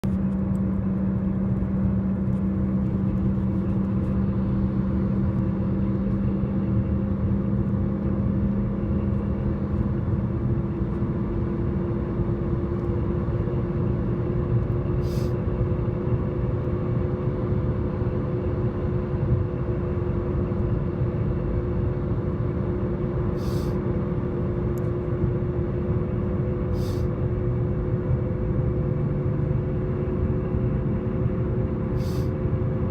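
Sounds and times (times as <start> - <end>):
road and engine rumble: 0.0 - 32.9.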